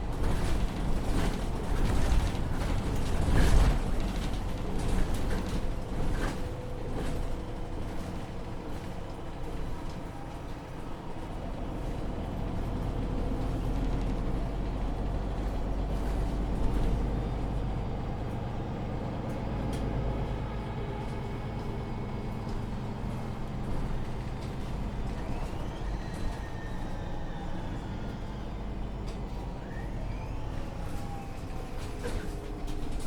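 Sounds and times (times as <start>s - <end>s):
bus engine and road rumble: 0.0s - 33.0s.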